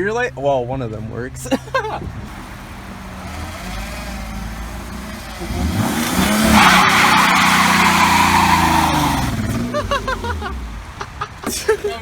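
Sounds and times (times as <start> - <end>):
car engine revving: 0.0 - 11.8
tyres screeching: 0.0 - 12.0.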